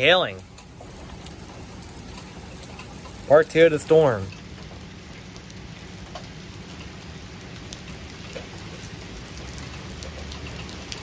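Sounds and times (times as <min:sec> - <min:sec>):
hailstones ticking: 0:00.0 - 0:11.0
rain hissing on pavement: 0:00.0 - 0:11.0.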